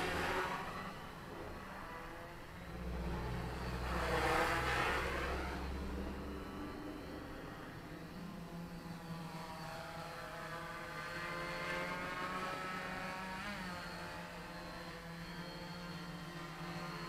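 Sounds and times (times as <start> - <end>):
quadcopter motors buzzing: 0.0 - 17.0.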